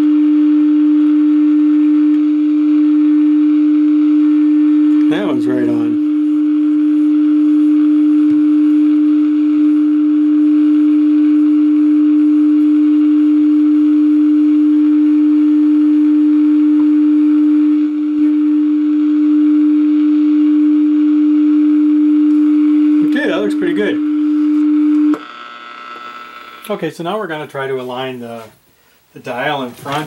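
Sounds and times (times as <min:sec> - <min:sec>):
steady low test tone: 0:00.2 - 0:28.6.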